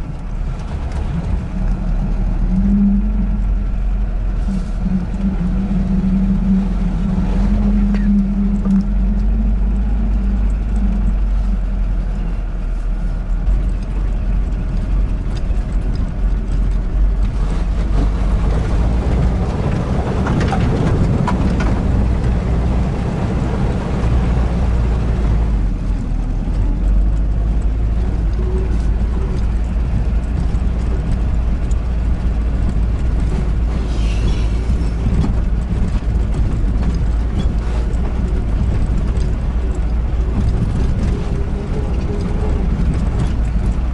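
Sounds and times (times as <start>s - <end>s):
van engine rumbling under load: 0.0s - 43.9s.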